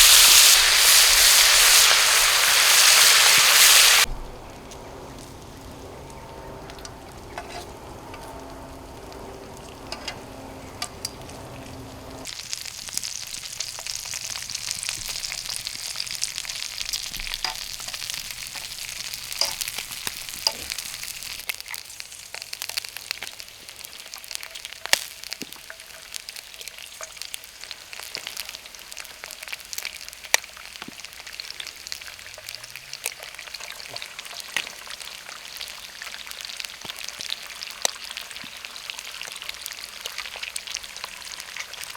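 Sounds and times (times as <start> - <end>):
meat sizzling and popping: 0.0 - 8.4, 12.2 - 41.9.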